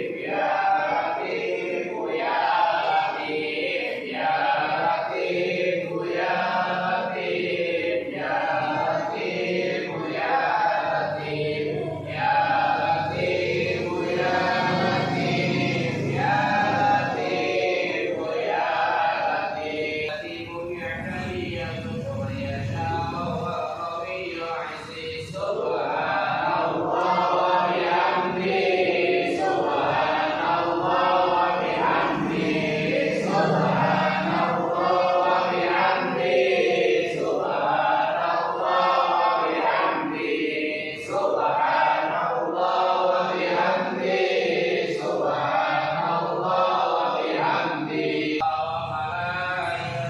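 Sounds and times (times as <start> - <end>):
men chanting in unison: 0.0 - 50.0.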